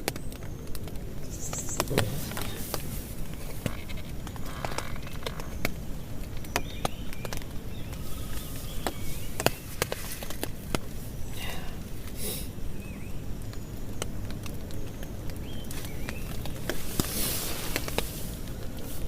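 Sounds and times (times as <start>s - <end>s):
rain rushing: 0.0s - 19.0s
raindrops tapping on a tent: 0.0s - 19.0s.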